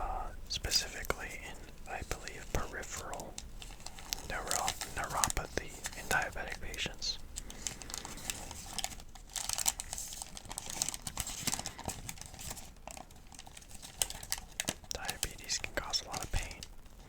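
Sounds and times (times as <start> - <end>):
paper crinkling and rustling: 0.6 - 17.0.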